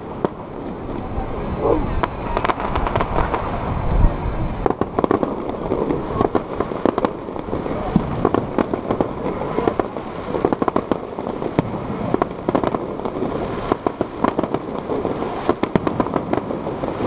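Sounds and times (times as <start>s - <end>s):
fireworks bangs and crackling pops: 0.0s - 17.0s.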